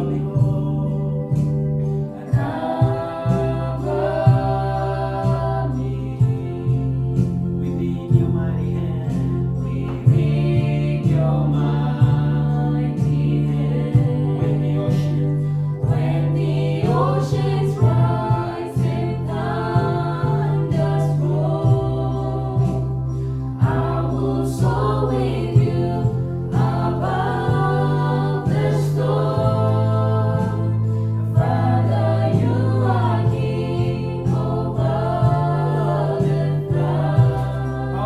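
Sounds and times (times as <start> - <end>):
voices singing together: 0.0 - 38.0.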